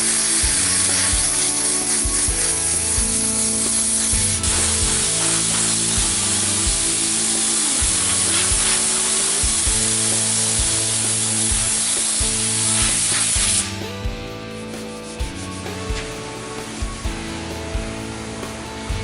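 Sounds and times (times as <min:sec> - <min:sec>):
background music with beat: 0:00.0 - 0:19.0
paint spray gun hissing: 0:00.0 - 0:19.0.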